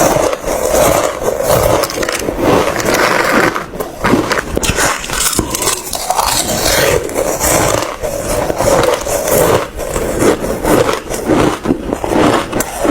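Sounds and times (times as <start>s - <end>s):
ice being chewed: 0.0s - 12.9s.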